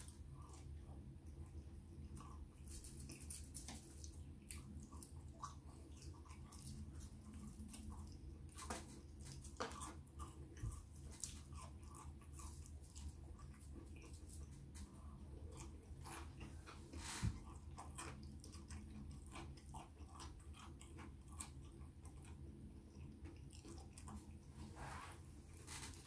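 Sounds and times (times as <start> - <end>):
close chewing: 0.0 - 24.7.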